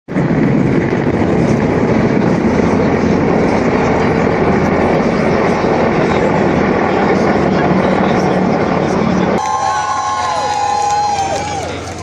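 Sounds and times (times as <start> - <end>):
aircraft engine rumble overhead: 0.1 - 12.0.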